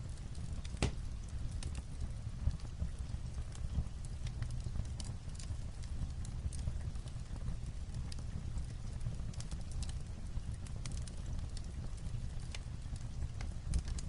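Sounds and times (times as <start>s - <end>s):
fireplace crackling: 0.0s - 14.0s
light rain on a roof: 0.0s - 14.0s.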